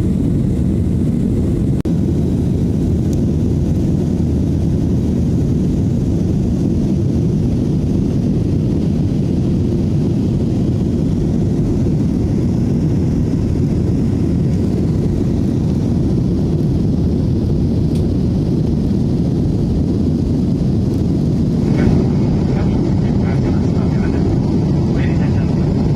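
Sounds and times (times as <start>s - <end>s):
jet airliner cabin rumble: 0.0s - 25.9s.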